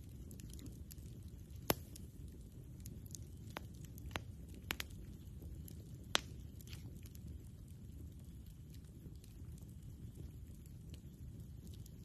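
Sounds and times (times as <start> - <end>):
campfire wood crackling and popping: 0.0 - 12.0
low steady rumble: 0.0 - 12.0.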